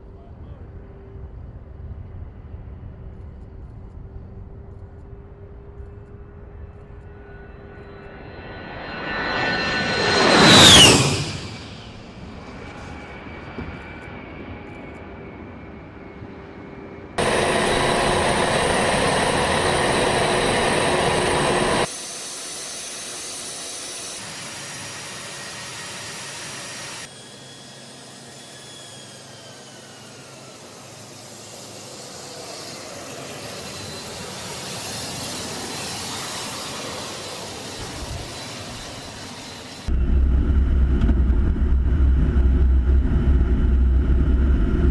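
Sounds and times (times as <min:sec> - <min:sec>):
faint whine shifting in pitch: 0:00.0 - 0:21.9, 0:26.0 - 0:44.9
jet engines running: 0:00.0 - 0:44.9.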